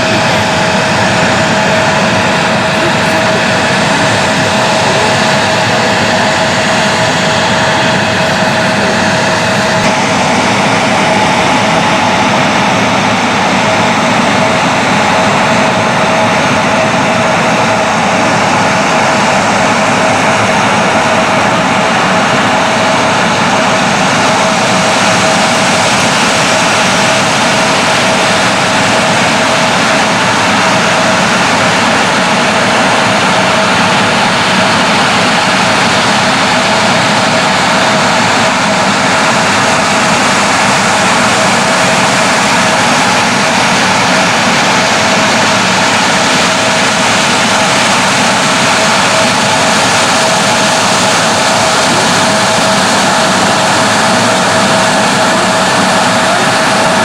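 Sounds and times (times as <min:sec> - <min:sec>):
airliner engines running: 0:00.0 - 0:57.0.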